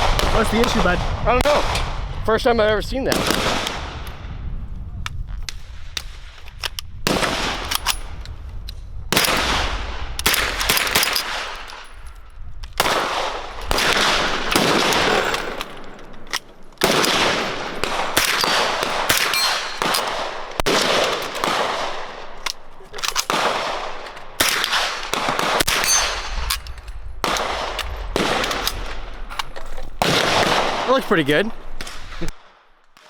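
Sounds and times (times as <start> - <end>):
gunshots with long echo: 0.0 - 4.8, 5.5 - 8.4, 9.1 - 12.1, 12.7 - 33.0.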